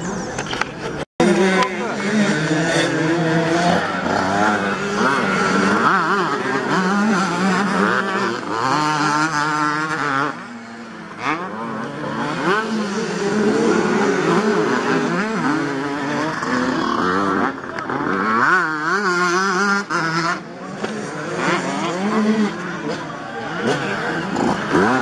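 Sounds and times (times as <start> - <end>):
motocross bikes racing past: 0.0 - 25.0.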